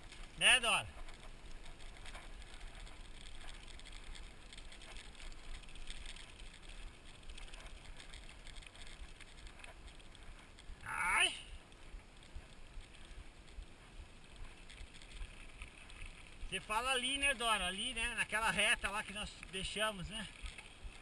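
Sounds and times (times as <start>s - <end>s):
bike tyres rolling on dirt: 0.0s - 21.0s
faint rattles: 0.0s - 21.0s.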